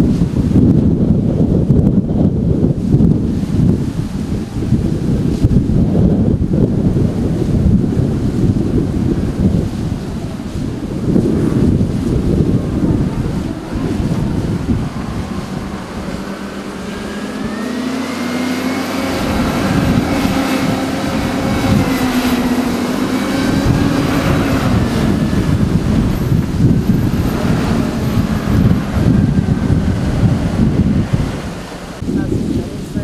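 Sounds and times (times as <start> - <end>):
diesel engine working: 0.0 - 33.0
wind rumbling on microphone: 0.0 - 33.0.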